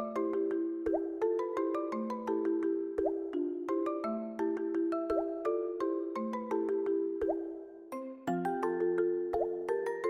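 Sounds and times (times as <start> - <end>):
playful plucked background music: 0.0 - 10.0.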